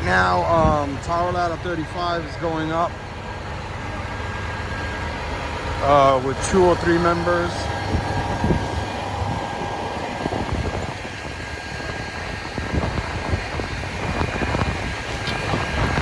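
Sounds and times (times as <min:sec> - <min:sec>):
fire truck engine running: 0:00.0 - 0:16.0
wind buffeting microphone: 0:00.0 - 0:16.0.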